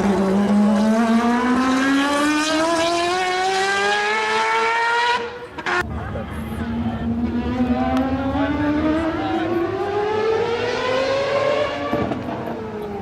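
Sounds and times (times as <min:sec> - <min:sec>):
race car engine accelerating: 0:00.0 - 0:05.9, 0:06.5 - 0:13.0.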